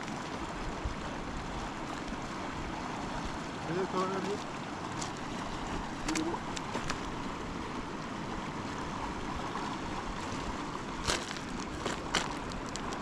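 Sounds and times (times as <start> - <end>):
flowing river water: 0.0 - 13.0.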